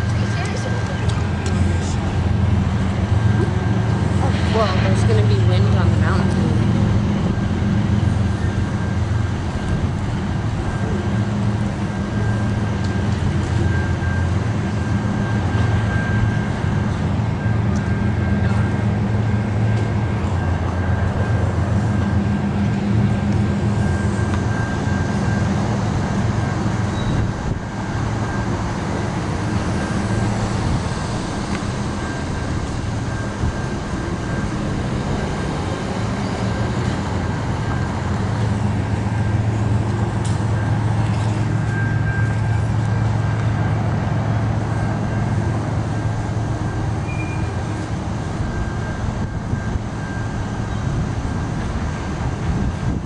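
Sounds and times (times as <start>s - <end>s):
low hum: 0.0s - 53.0s
train wheels rumbling on rail: 0.0s - 53.0s.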